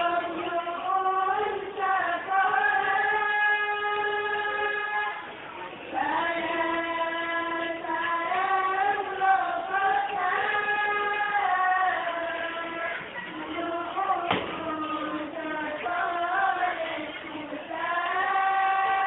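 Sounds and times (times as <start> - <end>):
girl singing devotional song: 0.0 - 19.0.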